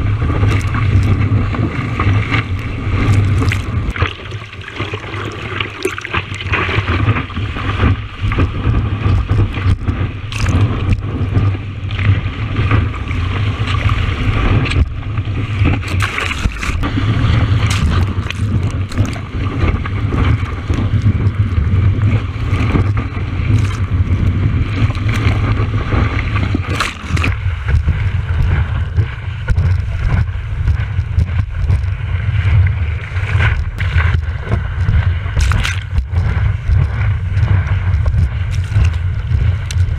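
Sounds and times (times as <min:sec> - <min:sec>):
rushing and splashing water: 0:00.0 - 0:39.9
water splashes hitting camera: 0:00.0 - 0:39.9
wind rumble on microphone: 0:00.0 - 0:39.9.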